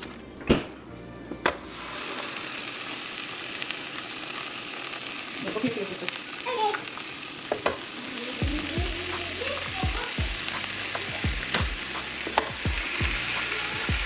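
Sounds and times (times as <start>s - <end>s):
sausages sizzling on a griddle: 1.6s - 14.0s.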